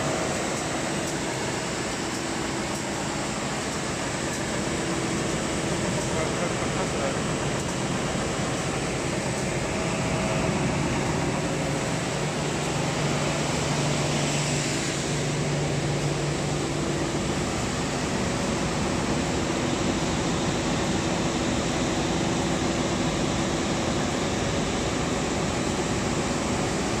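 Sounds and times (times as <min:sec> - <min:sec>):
planer sander machine drone: 0:00.0 - 0:27.0.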